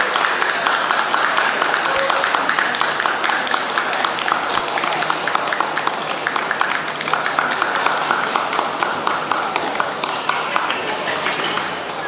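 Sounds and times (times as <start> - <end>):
indoor crowd hubbub: 0.0 - 12.0.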